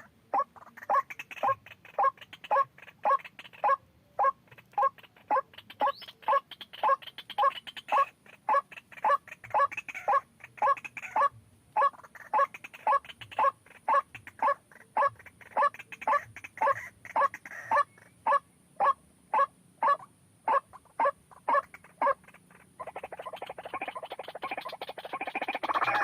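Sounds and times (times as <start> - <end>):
pulsing bird chatter: 0.0 - 26.0.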